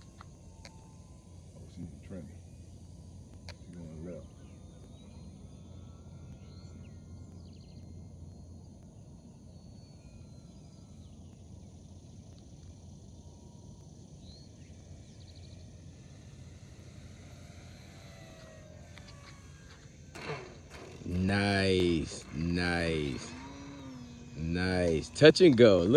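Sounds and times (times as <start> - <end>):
distant model airplane motor whine: 0.0 - 25.9
insect drone: 0.0 - 25.9.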